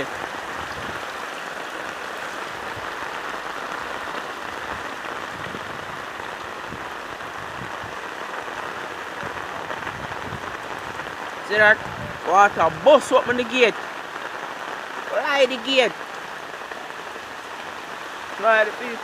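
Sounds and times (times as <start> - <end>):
heavy rain: 0.0 - 19.0
rushing floodwater: 0.0 - 19.0.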